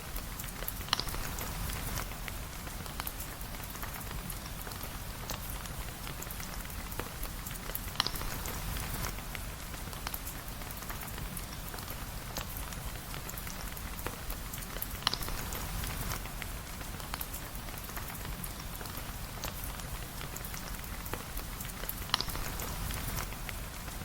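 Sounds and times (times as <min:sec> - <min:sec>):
sharp ticks of raindrops: 0:00.0 - 0:24.0
steady rain patter: 0:00.0 - 0:24.0.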